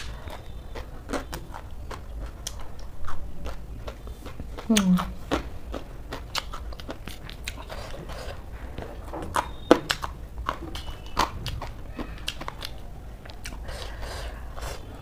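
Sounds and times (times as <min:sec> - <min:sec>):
person chewing crunchy cabbage: 0:00.0 - 0:15.0.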